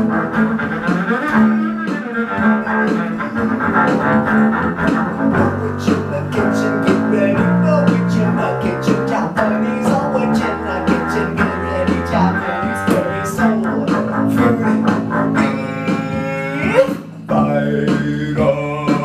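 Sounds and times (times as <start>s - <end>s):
double bass plucked: 0.0s - 19.0s
other instruments: 0.0s - 19.0s
steady ticking beat: 0.0s - 19.0s.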